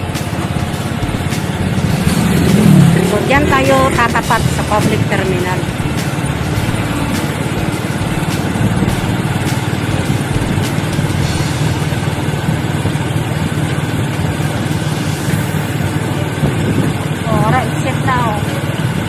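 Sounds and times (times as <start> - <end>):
road and wind noise: 0.0 - 19.0
vehicle engine running: 0.0 - 19.0.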